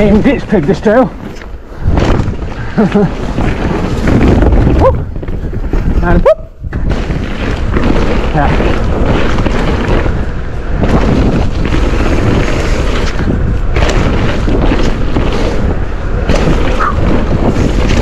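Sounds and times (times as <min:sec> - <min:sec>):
bike knocks and rattles: 0:00.0 - 0:06.0, 0:06.6 - 0:18.0
tyres rolling over dirt: 0:00.0 - 0:06.1, 0:06.7 - 0:18.0
wind buffeting microphone: 0:00.0 - 0:18.0.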